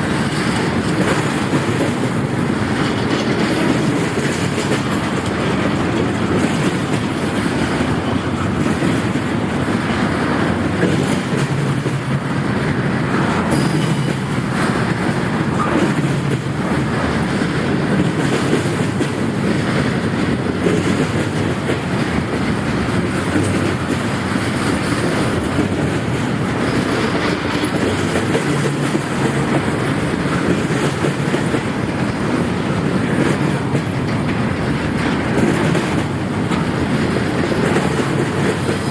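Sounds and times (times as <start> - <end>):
freight train rumble: 0.0 - 38.9
train wheels clicking over rail joints: 0.0 - 38.9.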